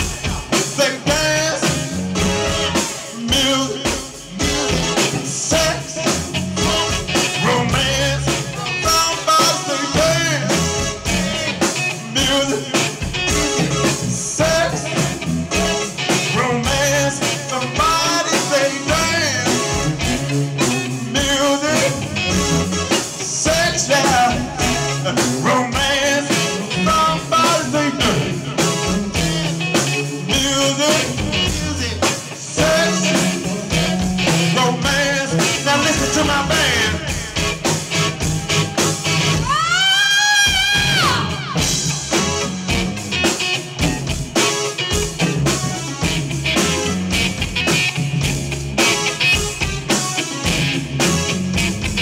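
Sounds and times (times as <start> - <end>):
man singing lead: 0.0 - 46.2
drum kit: 0.0 - 52.0
electric bass: 0.0 - 52.0
electric guitar: 0.0 - 52.0.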